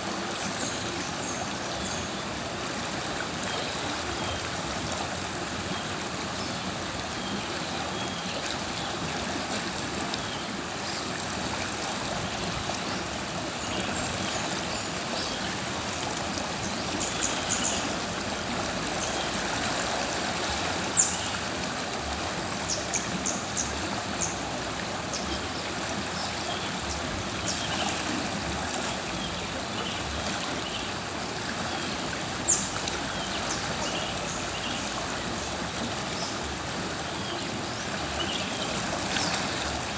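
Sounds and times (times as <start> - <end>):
river water flowing: 0.0 - 39.9
water splashes: 2.4 - 39.9.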